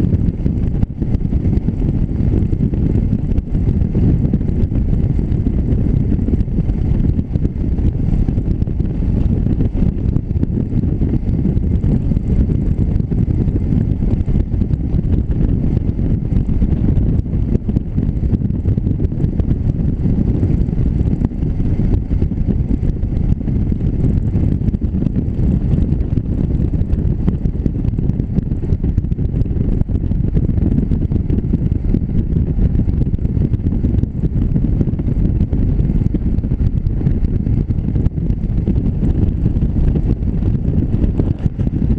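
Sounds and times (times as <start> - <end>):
motorcycle engine running: 0.0 - 41.9
wind rumble on microphone: 0.0 - 41.9.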